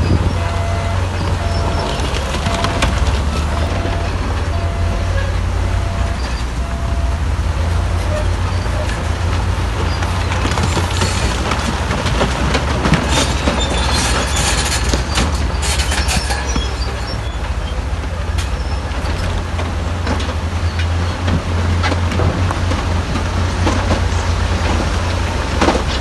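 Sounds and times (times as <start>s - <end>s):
bulldozer diesel engine drone: 0.0s - 26.0s
crawler tracks clanking and squealing: 0.0s - 26.0s.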